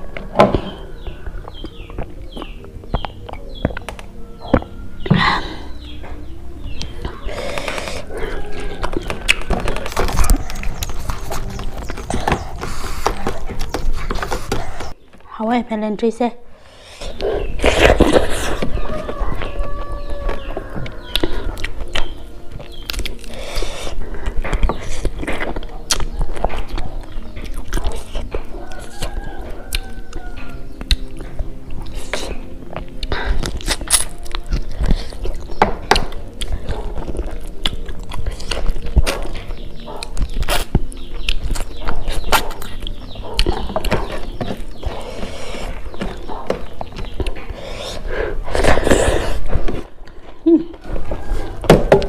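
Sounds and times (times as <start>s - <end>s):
wet chewing: 0.0s - 4.8s, 5.8s - 15.0s, 16.6s - 52.0s.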